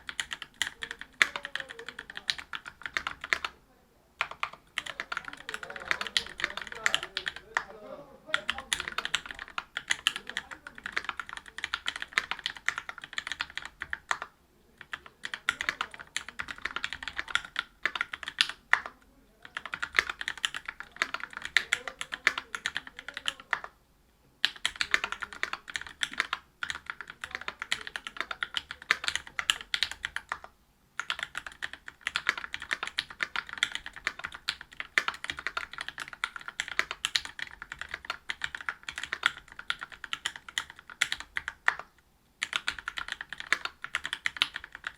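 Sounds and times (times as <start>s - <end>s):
fast typing on mechanical keyboard: 0.0s - 3.6s, 4.2s - 7.7s, 8.3s - 23.7s, 24.4s - 44.9s.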